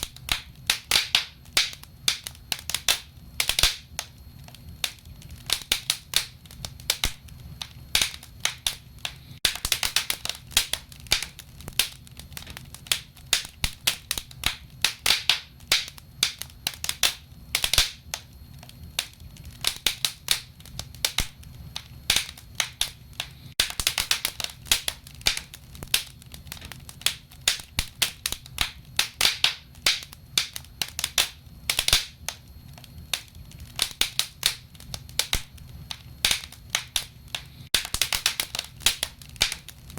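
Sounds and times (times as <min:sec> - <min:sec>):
sharp pops and snaps: 0:00.0 - 0:39.9
wood fire crackling: 0:00.0 - 0:39.9.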